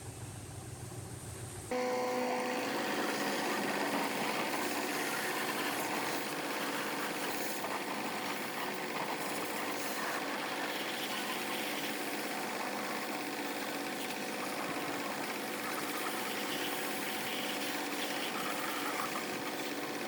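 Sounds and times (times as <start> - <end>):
pressure washer motor and pump: 0.0 - 20.0.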